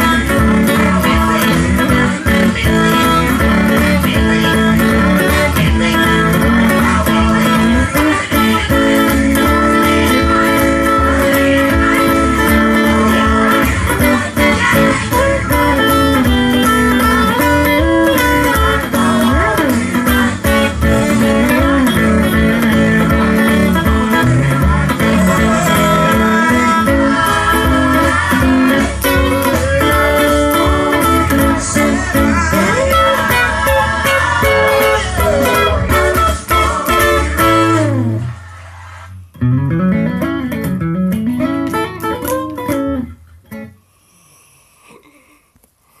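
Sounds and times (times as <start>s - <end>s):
band with drums and bass: 0.0s - 38.2s
electric guitar playing: 0.0s - 38.4s, 39.3s - 43.9s.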